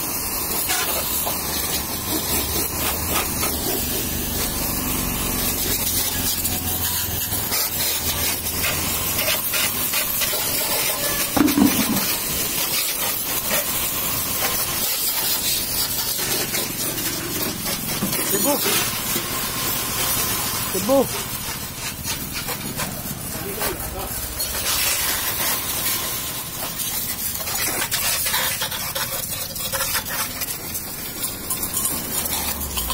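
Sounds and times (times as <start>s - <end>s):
pressure washer jet hissing: 0.0s - 32.9s.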